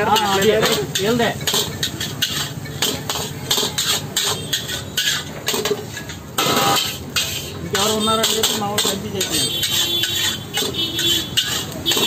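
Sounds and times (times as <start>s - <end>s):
metal ladle scraping wok: 0.0s - 12.0s.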